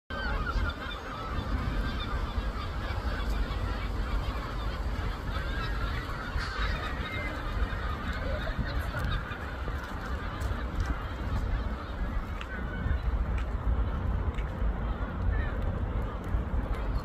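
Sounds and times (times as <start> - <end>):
gulls calling: 0.1 - 17.0.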